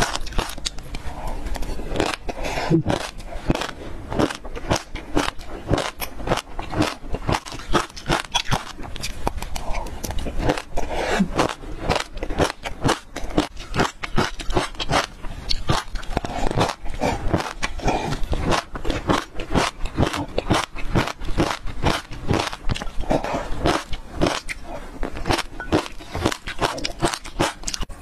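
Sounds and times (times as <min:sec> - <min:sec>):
chewing crunchy seeds: 0:00.0 - 0:27.9.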